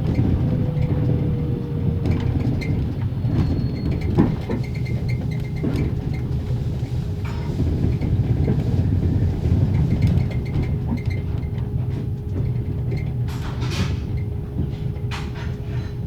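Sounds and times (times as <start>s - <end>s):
train coach rumbling: 0.0s - 16.0s.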